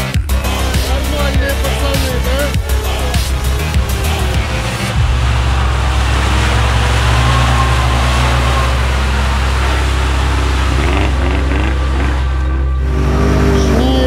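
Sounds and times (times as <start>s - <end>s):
engine running at steady revs: 0.0s - 14.0s
loud rushing noise: 0.4s - 13.7s.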